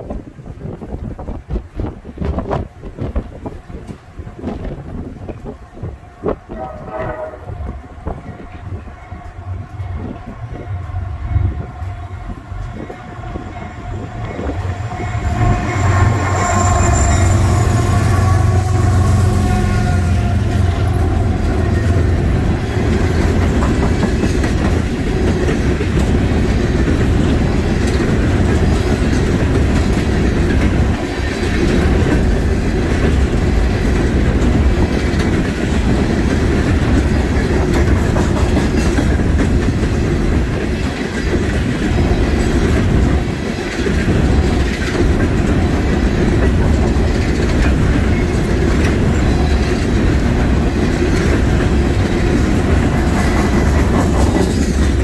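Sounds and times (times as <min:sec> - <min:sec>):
train wheels clacking on rails: 0:01.2 - 0:55.0
diesel locomotives passing: 0:01.7 - 0:55.0
freight cars rumbling: 0:07.1 - 0:55.0.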